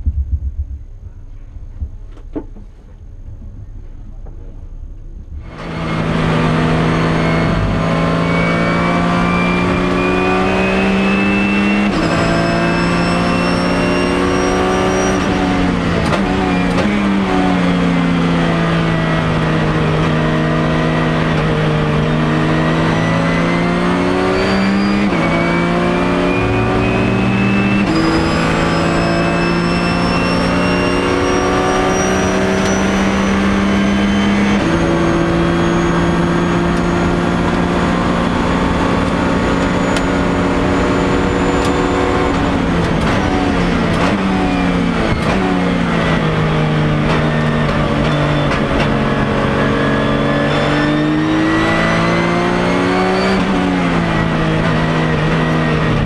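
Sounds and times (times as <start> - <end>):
high whine: 0.0 - 17.7, 18.5 - 55.7
racing car engine at full throttle: 3.0 - 56.0.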